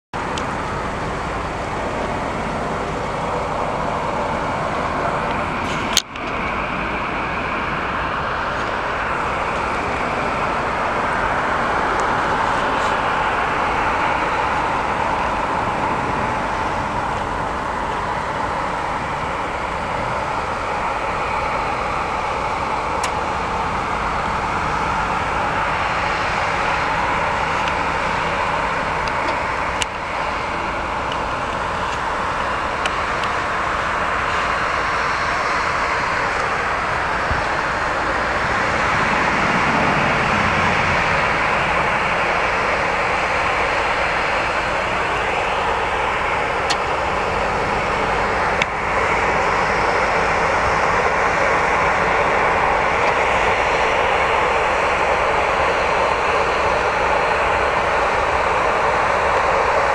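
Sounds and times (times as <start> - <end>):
jet engines running: 0.1 - 59.9.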